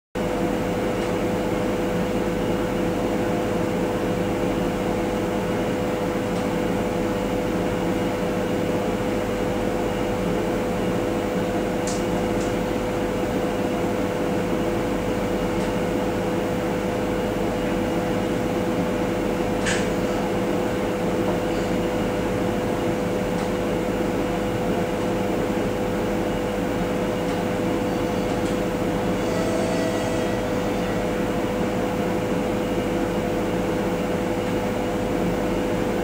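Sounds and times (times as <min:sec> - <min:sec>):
train mechanical hum: 0:00.2 - 0:36.0.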